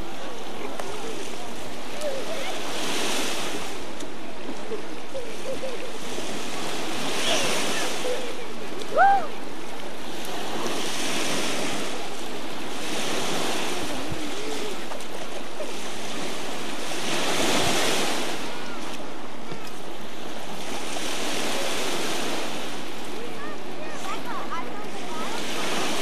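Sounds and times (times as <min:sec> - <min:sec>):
waves washing and breaking: 0:00.0 - 0:26.0.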